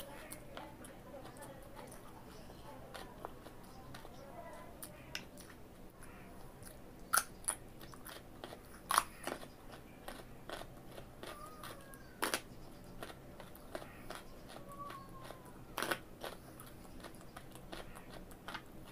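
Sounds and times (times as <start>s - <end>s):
carrot crunching: 0.0s - 18.9s.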